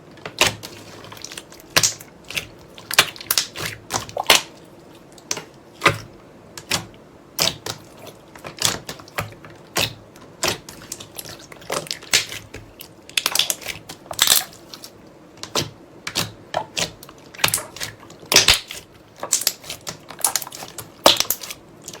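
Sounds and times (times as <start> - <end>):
slime squished by hand: 0.4 - 22.0.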